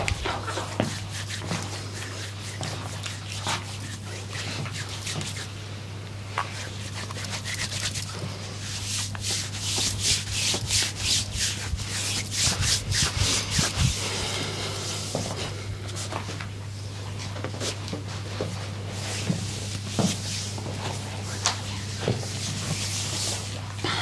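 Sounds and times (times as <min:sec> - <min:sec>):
hands rubbing in massage strokes: 0:00.0 - 0:05.6, 0:06.3 - 0:16.4, 0:17.6 - 0:23.7
steady low hum: 0:00.0 - 0:24.0.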